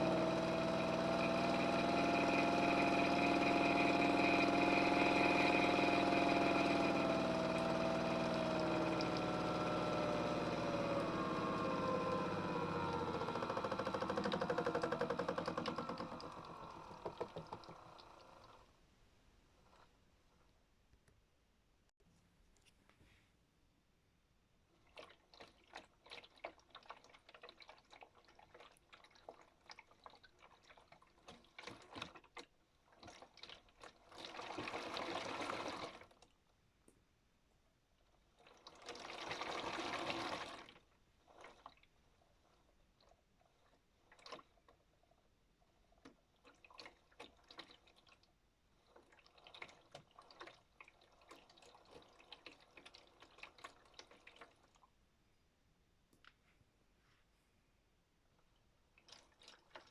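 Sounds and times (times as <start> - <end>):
toy washing machine water sounds: 0.0 - 18.7, 24.7 - 36.4, 38.0 - 55.0, 58.9 - 59.9.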